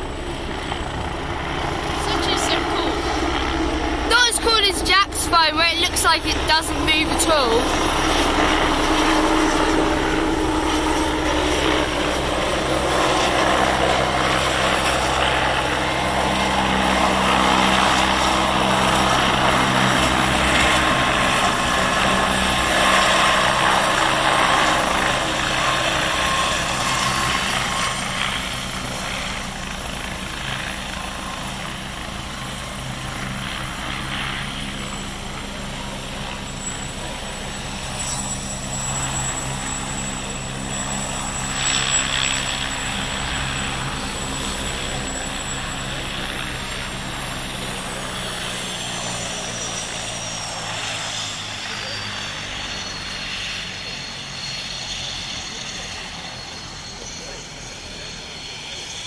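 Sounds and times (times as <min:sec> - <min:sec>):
helicopter turbine and rotor: 0:00.0 - 0:59.0.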